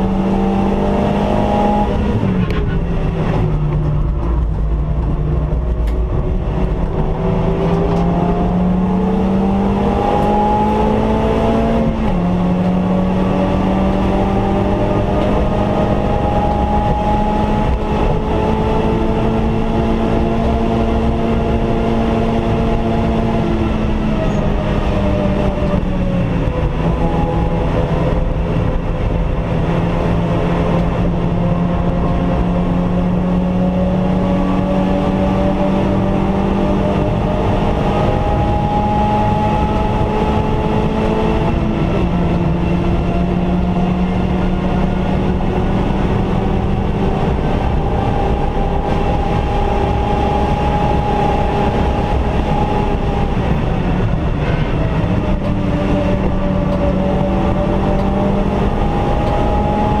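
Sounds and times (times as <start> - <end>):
car engine pulling hard: 0.0 - 60.0.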